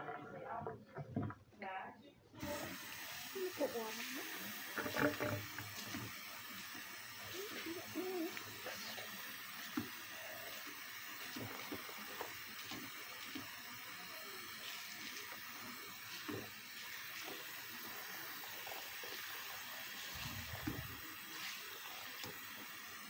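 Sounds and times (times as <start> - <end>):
faucet running into sink: 2.4 - 23.0.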